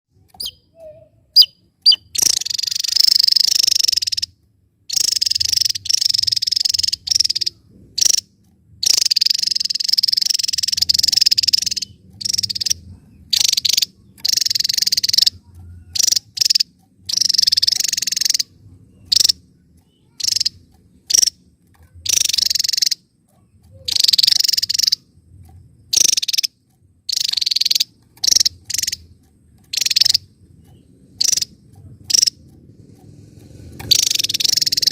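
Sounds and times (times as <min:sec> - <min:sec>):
bird trilling song: 0:00.2 - 0:34.9.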